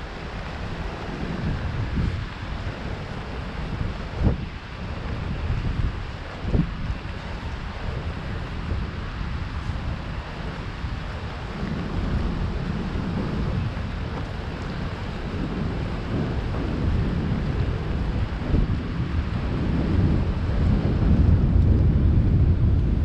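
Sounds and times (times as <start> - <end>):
rain on a street: 0.0 - 23.0
wind buffeting microphone: 0.0 - 23.0.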